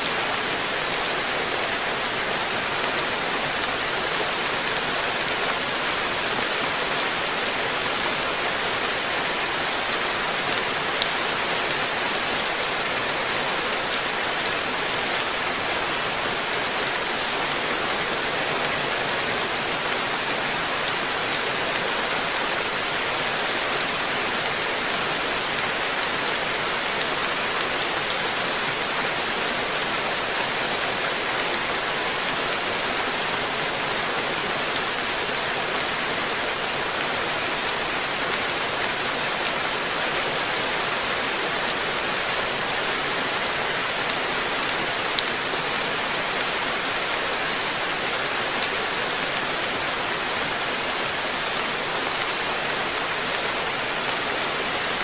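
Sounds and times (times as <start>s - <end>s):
rain on water: 0.0s - 55.0s.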